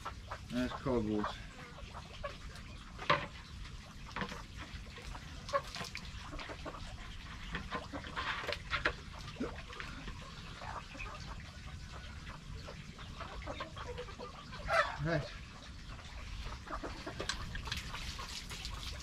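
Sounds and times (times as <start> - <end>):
hens clucking: 0.0 - 19.0
water sloshing: 0.0 - 19.0.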